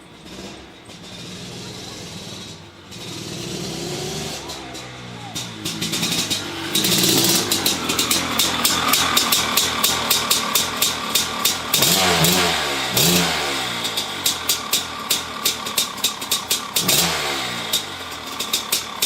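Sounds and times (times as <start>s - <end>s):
engine throttle blips: 0.0s - 19.0s
two-stroke dirt bike engine running: 0.1s - 19.0s.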